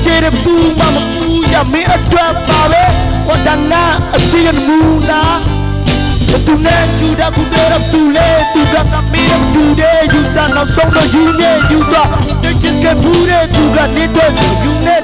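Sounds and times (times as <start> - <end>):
live band playing: 0.0 - 15.0
man singing into microphone: 0.0 - 15.0.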